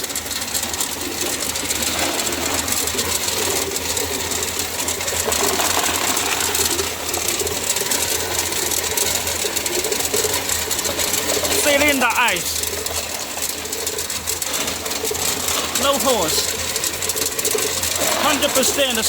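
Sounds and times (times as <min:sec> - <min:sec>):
ice machine compressor running: 0:00.0 - 0:19.0.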